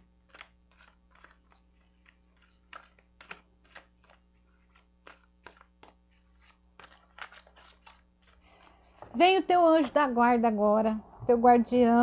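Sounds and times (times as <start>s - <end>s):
cards being shuffled: 0.0s - 10.1s.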